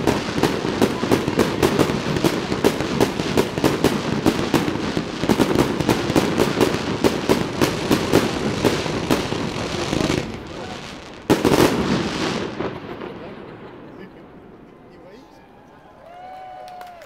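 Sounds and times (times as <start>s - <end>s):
fireworks bursting: 0.0s - 14.8s.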